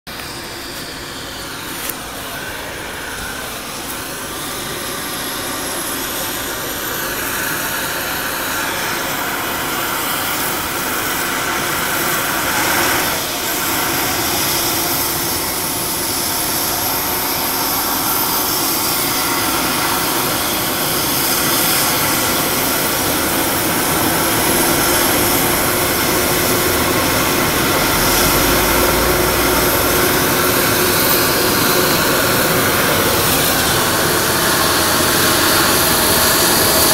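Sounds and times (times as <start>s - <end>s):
helicopter rotor noise: 0.1s - 36.9s
helicopter turbine whine: 0.1s - 36.9s.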